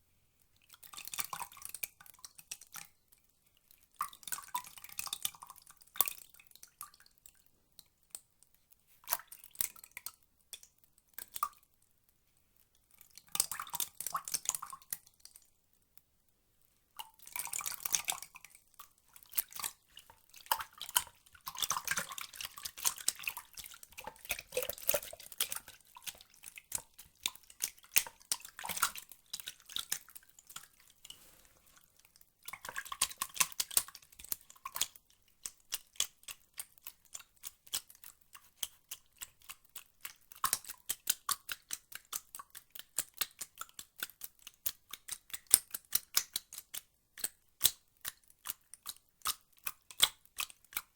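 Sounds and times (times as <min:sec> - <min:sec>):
water dripping and splashing: 0:00.6 - 0:08.3, 0:12.7 - 0:15.6, 0:16.6 - 0:50.9.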